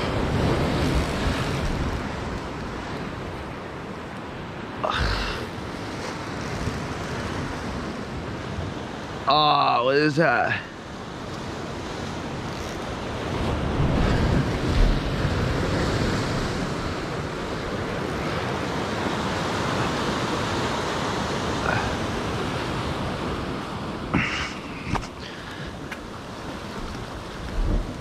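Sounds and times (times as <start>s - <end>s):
wind buffeting microphone: 0.0s - 9.1s, 11.0s - 21.2s, 22.2s - 28.0s
ocean surf breaking on rocks: 0.0s - 28.0s.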